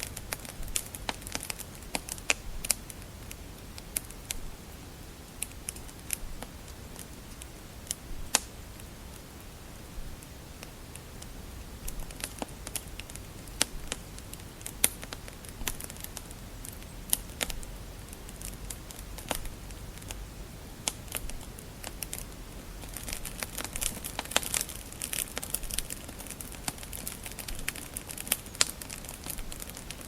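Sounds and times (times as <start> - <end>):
low steady rumble: 0.0 - 30.0
wood fire crackling: 0.0 - 30.0.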